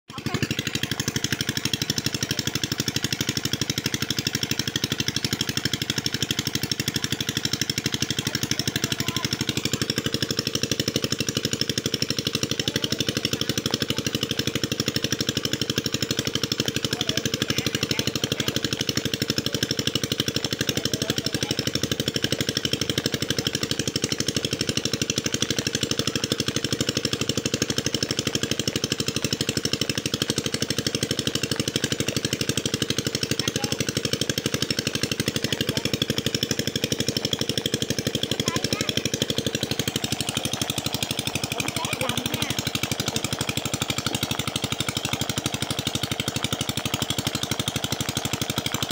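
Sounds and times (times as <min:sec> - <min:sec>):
small engine chugging: 0:00.1 - 0:48.9.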